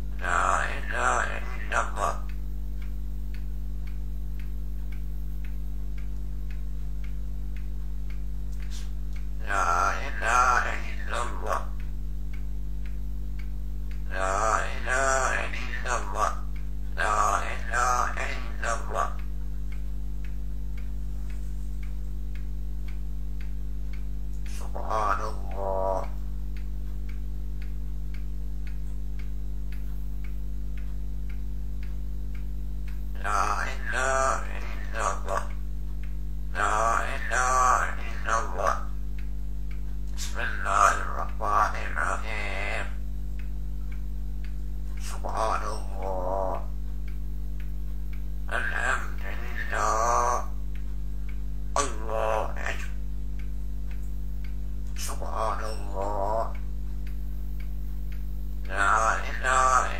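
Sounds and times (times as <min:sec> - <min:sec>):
faint regular ticking: 0:00.0 - 0:59.9
low electrical hum: 0:00.0 - 0:59.9.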